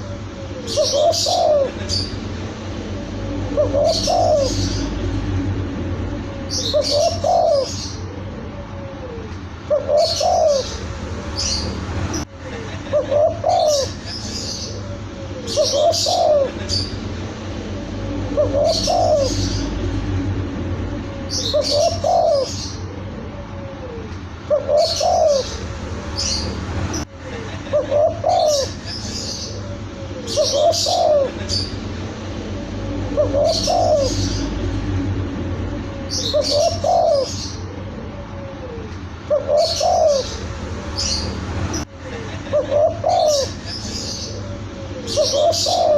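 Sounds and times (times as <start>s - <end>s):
dove cooing: 0.0s - 11.7s, 12.9s - 14.0s, 14.6s - 26.5s, 27.7s - 28.8s, 29.4s - 35.4s, 36.0s - 41.3s, 42.5s - 43.6s, 44.2s - 45.9s
small birds chirping: 0.0s - 23.0s, 24.5s - 45.9s.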